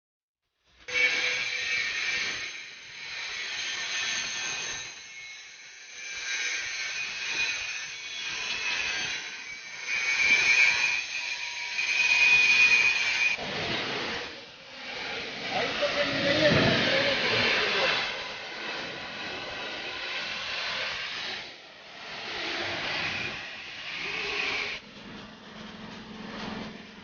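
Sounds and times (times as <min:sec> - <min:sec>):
power tool hissing on steel: 0:00.8 - 0:24.9
thin high whine: 0:00.8 - 0:27.0.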